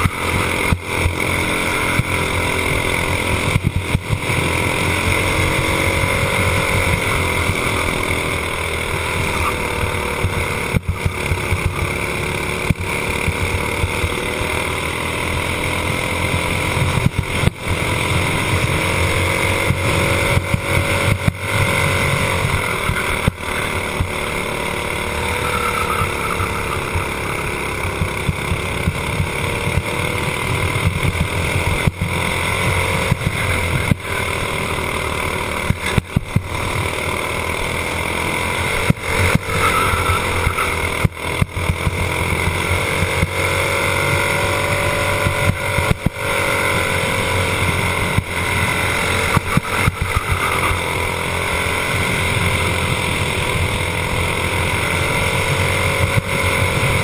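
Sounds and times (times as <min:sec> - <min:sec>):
racing kart engine revving: 0:00.0 - 0:57.0.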